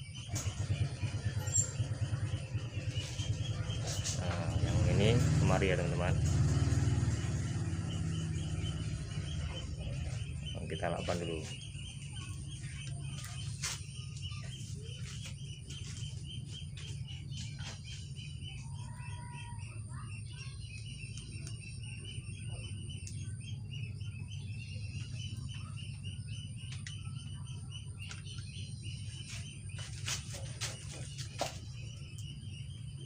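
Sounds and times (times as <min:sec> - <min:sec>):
birds chirping rapidly: 0:00.0 - 0:33.0.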